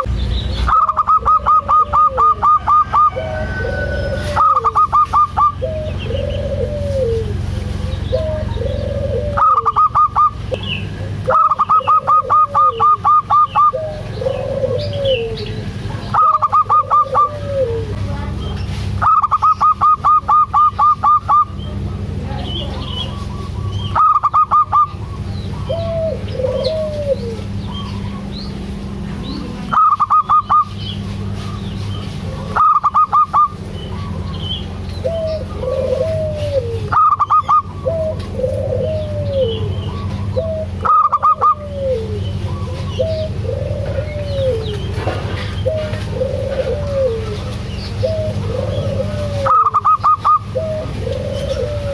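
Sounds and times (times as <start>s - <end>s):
doves cooing: 0.0s - 51.9s
steady low hum: 0.0s - 51.9s.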